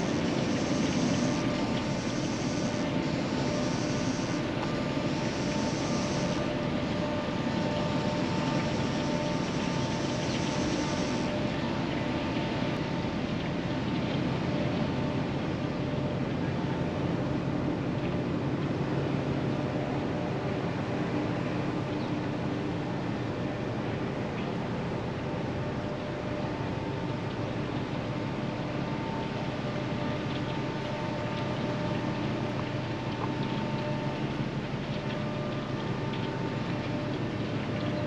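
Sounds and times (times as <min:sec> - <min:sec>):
high pulsing hiss: 0:00.0 - 0:38.0
ship engine drone: 0:00.0 - 0:38.0
steady machinery hums: 0:00.0 - 0:38.0.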